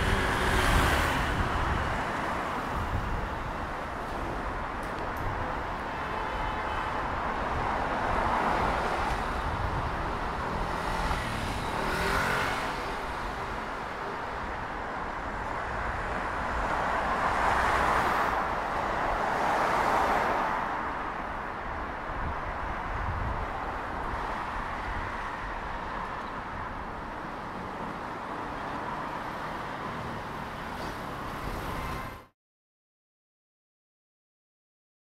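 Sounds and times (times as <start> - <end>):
vehicles passing: 0.0 - 32.3
hum of city traffic: 0.0 - 32.4.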